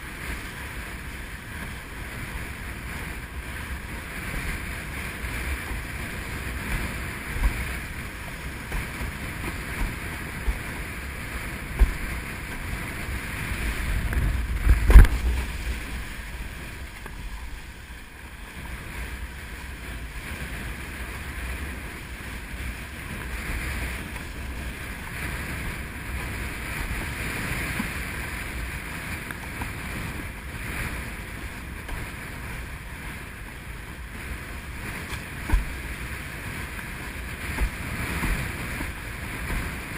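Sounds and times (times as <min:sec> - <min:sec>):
board slapping water: 0:00.0 - 0:39.9
water rushing: 0:00.0 - 0:39.9
wind buffeting microphone: 0:00.0 - 0:39.9.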